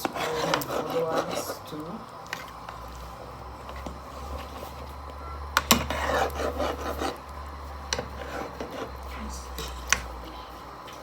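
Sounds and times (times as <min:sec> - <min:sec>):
spoon stirring thick stew: 0:00.0 - 0:11.0.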